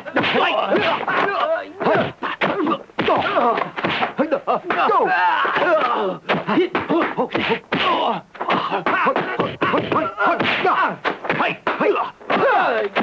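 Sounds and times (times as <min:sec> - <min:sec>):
fighters shouting and grunting: 0:00.0 - 0:13.0
punch and kick impacts: 0:00.1 - 0:04.9, 0:05.6 - 0:13.0.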